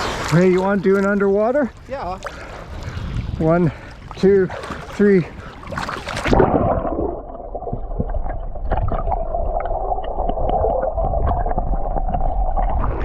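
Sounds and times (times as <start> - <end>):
muffled underwater water noise: 0.0 - 13.0.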